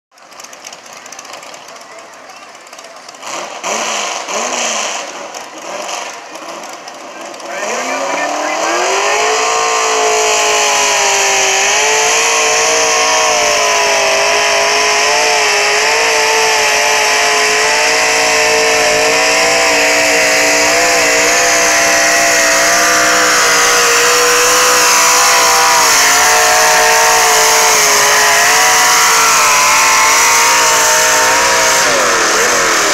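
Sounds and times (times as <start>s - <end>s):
engine running at high revs: 0.2s - 32.9s.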